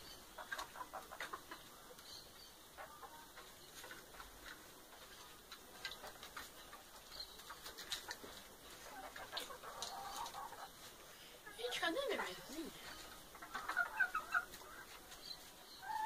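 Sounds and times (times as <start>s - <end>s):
chickens clucking softly: 0.0s - 16.0s
pecking and scratching in straw: 0.0s - 16.0s.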